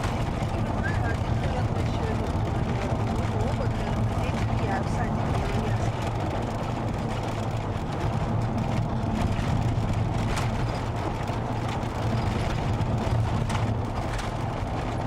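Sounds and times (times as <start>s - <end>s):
car interior road noise: 0.0s - 15.0s.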